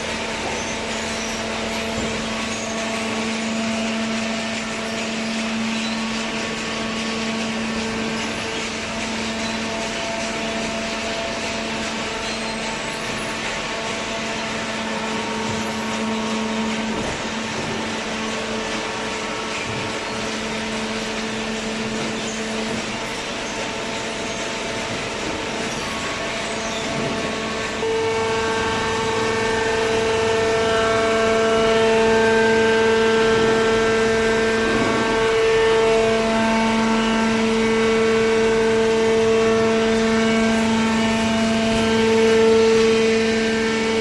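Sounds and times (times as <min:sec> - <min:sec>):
baler machine hum: 0:00.0 - 0:44.0.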